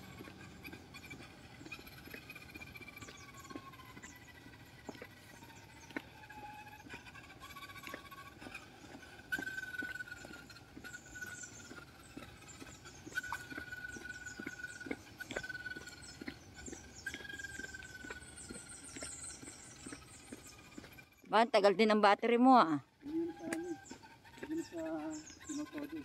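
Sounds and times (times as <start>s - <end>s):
toy car motor whine: 0.0s - 21.2s, 21.8s - 26.0s
high chirps: 0.0s - 21.9s, 22.5s - 26.0s
footsteps on asphalt: 0.0s - 26.0s.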